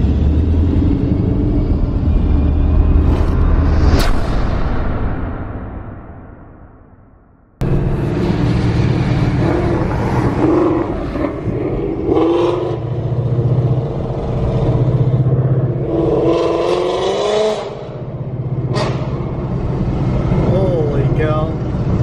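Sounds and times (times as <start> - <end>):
car engine droning and accelerating: 0.0 - 22.0.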